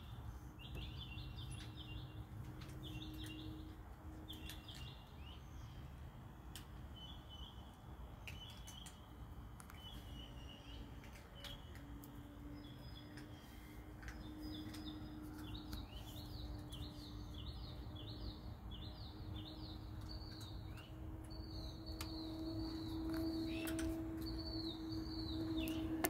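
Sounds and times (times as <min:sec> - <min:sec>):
bird chirping: 0:00.0 - 0:05.9, 0:06.9 - 0:26.0
faint low hum: 0:00.0 - 0:26.0.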